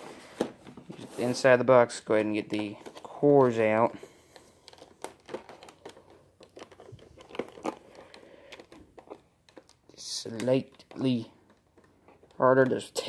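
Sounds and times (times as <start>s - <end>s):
plastic packaging crinkling: 0.1s - 13.0s.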